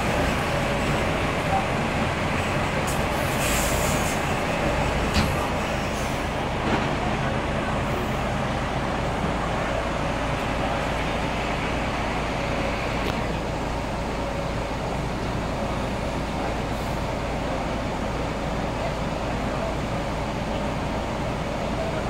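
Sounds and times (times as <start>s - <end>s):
diesel coaches idling: 0.0s - 22.0s.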